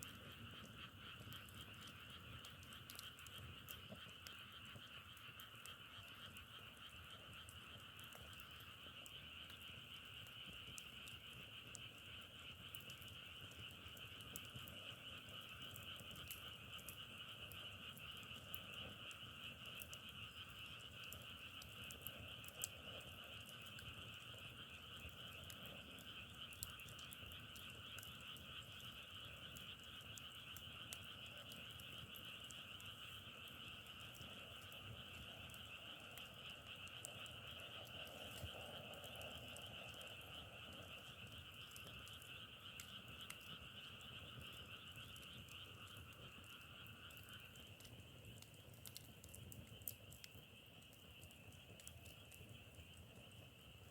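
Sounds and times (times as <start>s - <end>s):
frogs calling in chorus: 0.1s - 53.3s.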